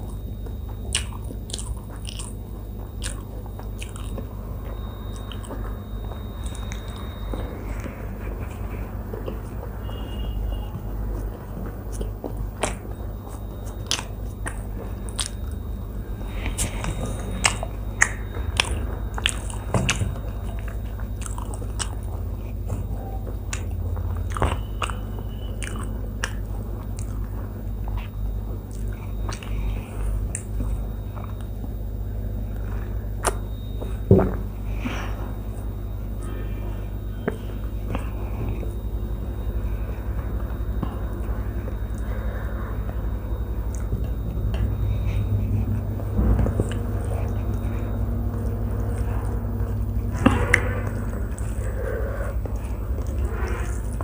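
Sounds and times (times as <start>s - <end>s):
person chewing: 0.0s - 31.7s, 32.6s - 34.0s, 37.2s - 54.0s
steady low hum: 0.0s - 54.0s.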